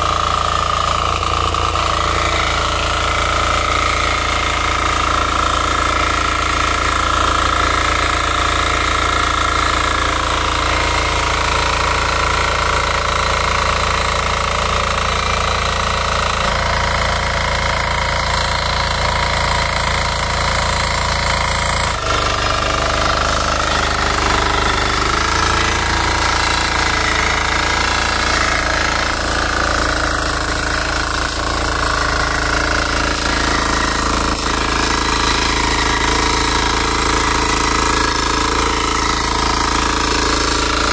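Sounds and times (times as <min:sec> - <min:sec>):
diesel tiller engine running: 0:00.0 - 0:40.9
rotary tines churning soil: 0:00.0 - 0:40.9.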